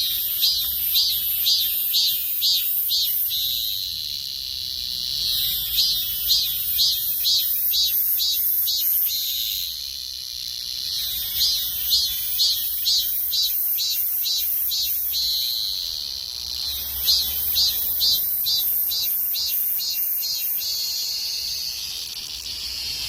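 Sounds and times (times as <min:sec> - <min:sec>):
cicada singing: 0:00.0 - 0:23.0.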